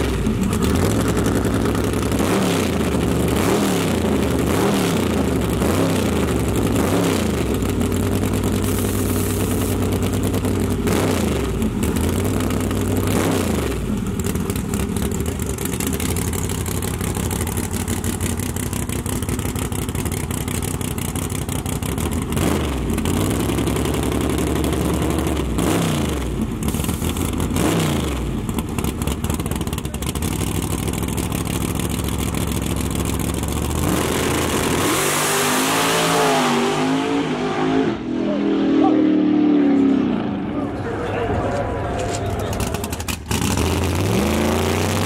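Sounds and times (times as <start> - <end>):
truck engine revving: 0.0 - 19.9, 20.6 - 45.0.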